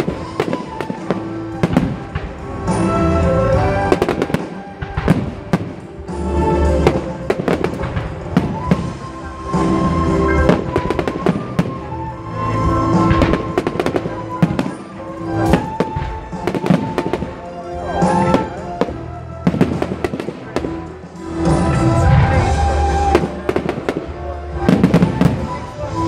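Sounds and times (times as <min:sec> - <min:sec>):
fireworks bursting: 0:00.0 - 0:26.0
music with long held notes: 0:00.0 - 0:26.0.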